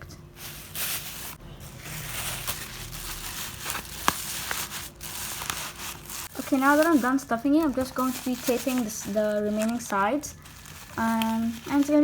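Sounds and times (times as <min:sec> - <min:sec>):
plastic bags crinkling: 0:00.4 - 0:12.0.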